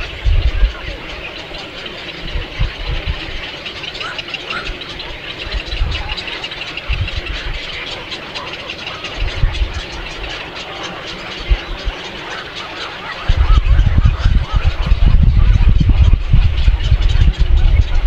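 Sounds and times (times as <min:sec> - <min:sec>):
birds chirping in chorus: 0:00.0 - 0:18.0.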